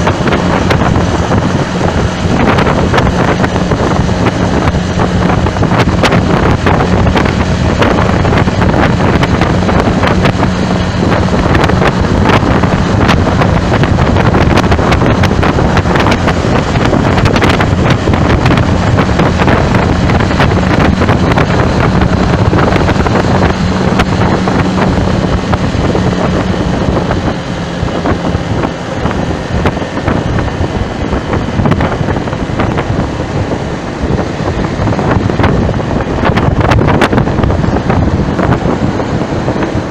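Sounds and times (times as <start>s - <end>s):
steady low hum: 0.0s - 39.9s
wind buffeting microphone: 0.0s - 39.9s.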